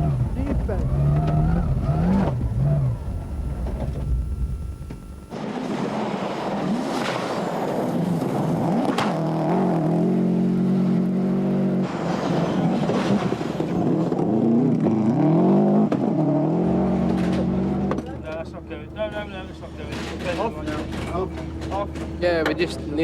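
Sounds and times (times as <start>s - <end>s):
rally car engine revving: 0.0s - 22.6s.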